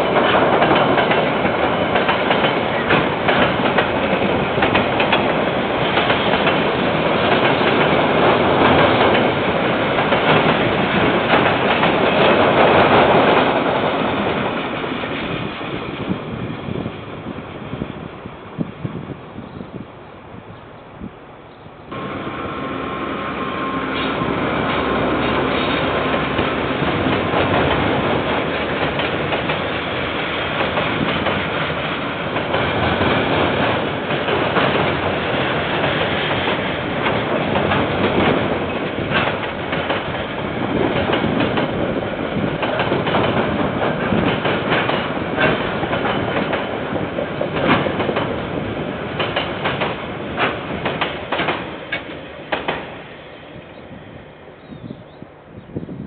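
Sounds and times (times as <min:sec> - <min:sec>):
diesel locomotive passing: 0:00.0 - 0:56.0.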